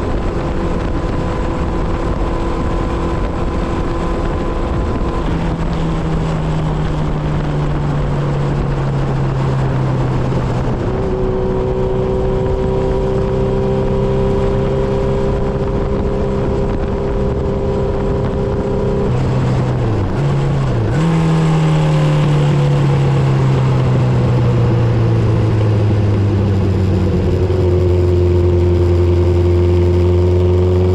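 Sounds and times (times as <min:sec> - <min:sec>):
motorcycle engine at highway speed: 0:00.0 - 0:30.9.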